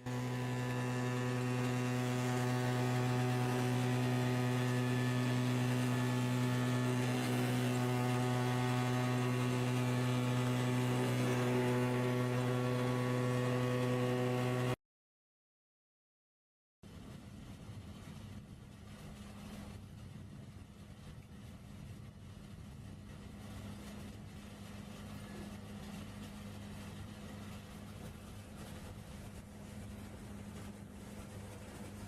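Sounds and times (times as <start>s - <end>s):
steady low hum: 0.0s - 14.8s, 16.9s - 32.0s.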